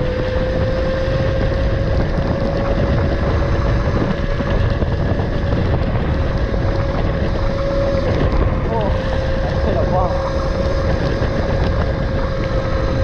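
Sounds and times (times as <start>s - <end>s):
electric motor whining: 0.0s - 13.0s
wind rumbling on microphone: 0.0s - 13.0s.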